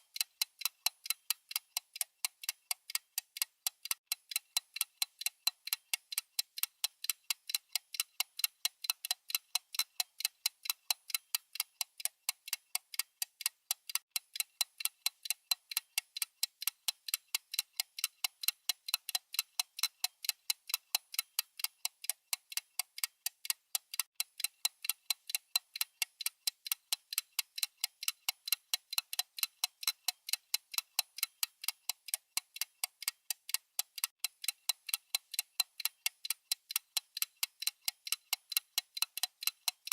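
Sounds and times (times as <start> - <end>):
clock-like timer ticking: 0.0 - 39.9.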